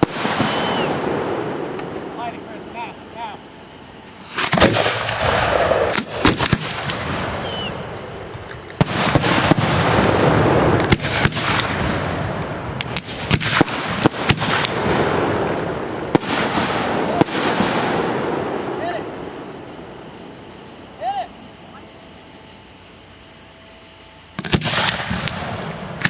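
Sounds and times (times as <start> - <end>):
fireworks bangs: 0.0 - 20.5, 24.4 - 26.0
fireworks crackling: 0.0 - 26.0.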